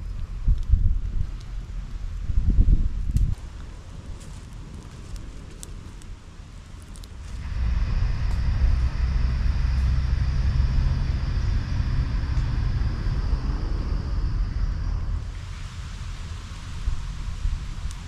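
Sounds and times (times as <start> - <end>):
low engine rumble: 0.0 - 18.0
steady hiss: 0.0 - 18.0.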